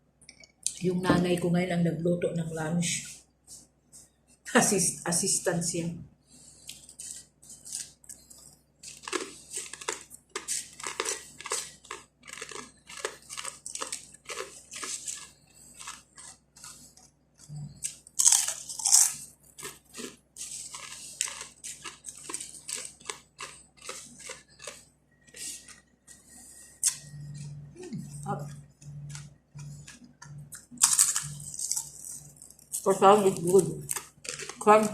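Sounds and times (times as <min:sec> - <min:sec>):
chewing crunchy fried bread: 0:06.3 - 0:34.9.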